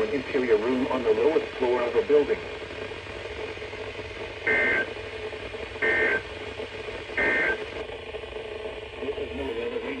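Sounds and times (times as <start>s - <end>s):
broadcast hiss: 0.0s - 10.0s.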